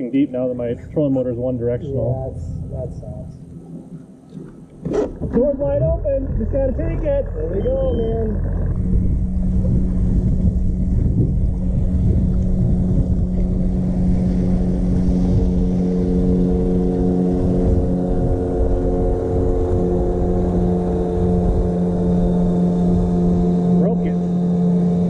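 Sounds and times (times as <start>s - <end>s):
wind buffeting microphone: 0.0s - 25.0s
electric boat motor humming: 0.6s - 25.0s.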